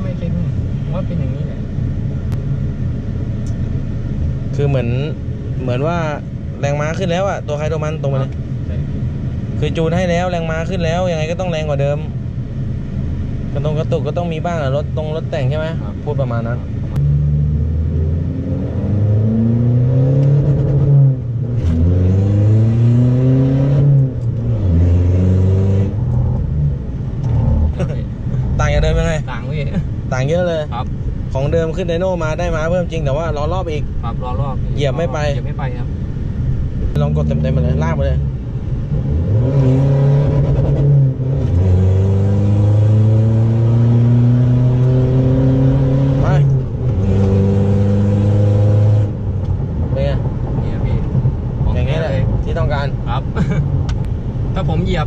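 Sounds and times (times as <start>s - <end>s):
diesel engine accelerating: 0.0s - 55.0s.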